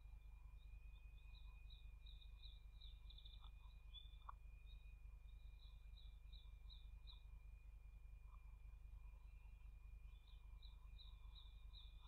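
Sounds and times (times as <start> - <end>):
constant high whine: 0.0 - 12.0.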